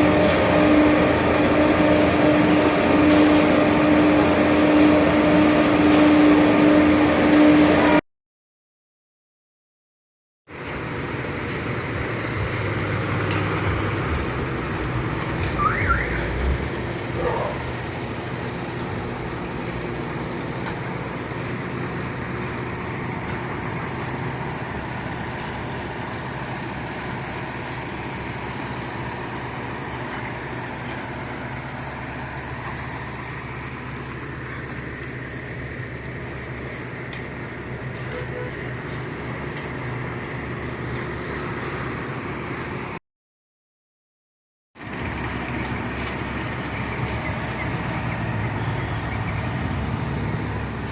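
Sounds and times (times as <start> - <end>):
construction machinery engine running: 0.0 - 8.0, 10.5 - 43.0, 44.8 - 50.9.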